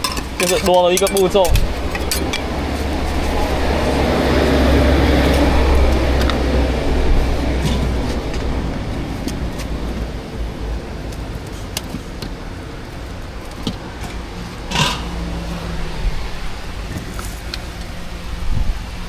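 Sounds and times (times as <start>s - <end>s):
street background rumble: 0.0s - 19.0s.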